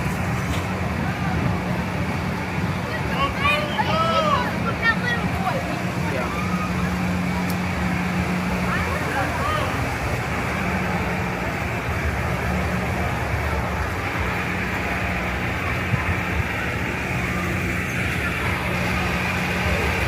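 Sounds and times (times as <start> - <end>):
busy background noise: 0.0 - 20.0
low engine-like drone: 0.0 - 20.0.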